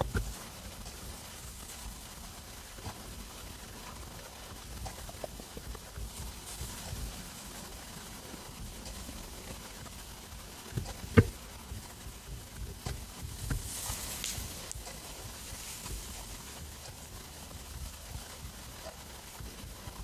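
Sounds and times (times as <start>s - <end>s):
stomach rumbling and gurgling: 0.0s - 20.0s.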